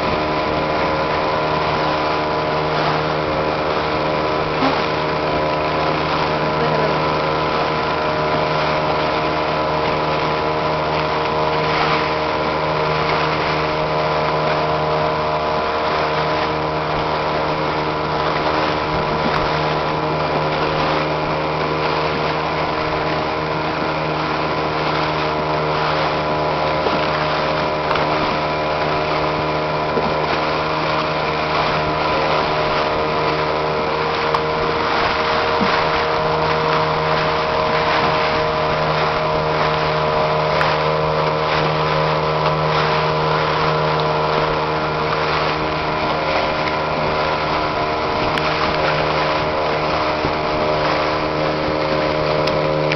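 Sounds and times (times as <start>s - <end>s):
boat motor running steadily: 0.0s - 52.9s
wind: 0.0s - 52.9s.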